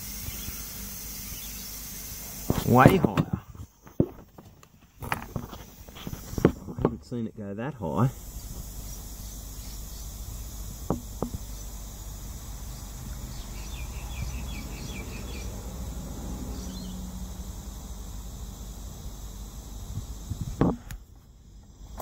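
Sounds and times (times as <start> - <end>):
vacuum pump humming and hissing: 0.0 - 22.0.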